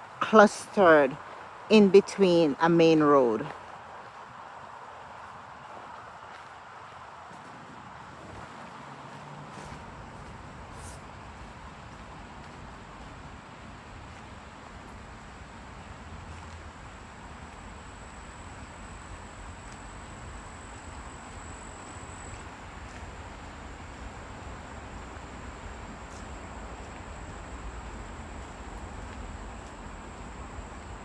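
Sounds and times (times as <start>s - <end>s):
stream flowing: 0.0s - 31.0s
distant road traffic: 4.5s - 31.0s.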